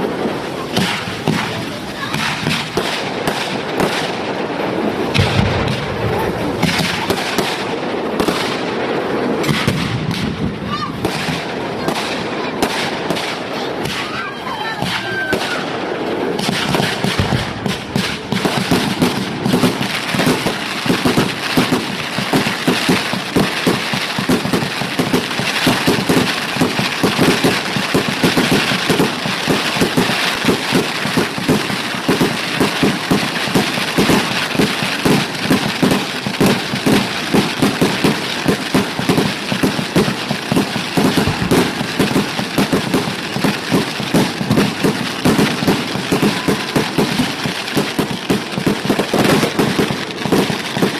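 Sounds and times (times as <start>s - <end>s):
fireworks popping and crackling: 0.0s - 50.9s.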